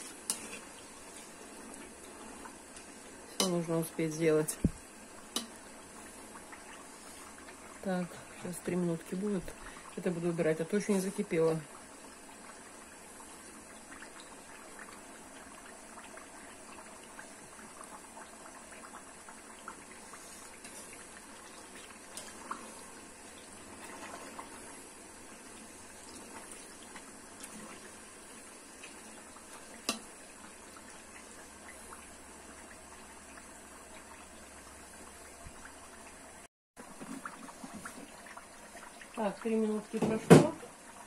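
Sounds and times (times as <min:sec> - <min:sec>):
pot simmering and bubbling: 0:00.0 - 0:41.0.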